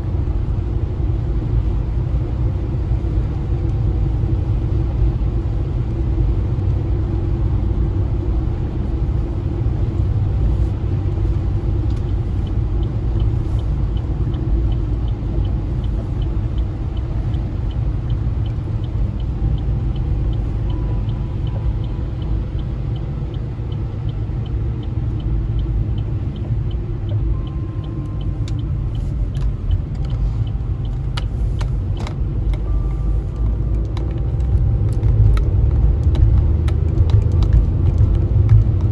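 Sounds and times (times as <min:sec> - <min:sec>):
car driving on snowy road: 0:00.0 - 0:38.9.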